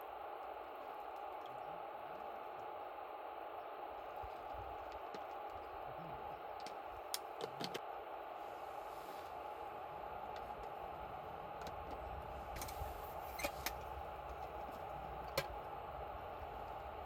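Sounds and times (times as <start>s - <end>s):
campfire crackling and hissing: 0.0s - 17.0s.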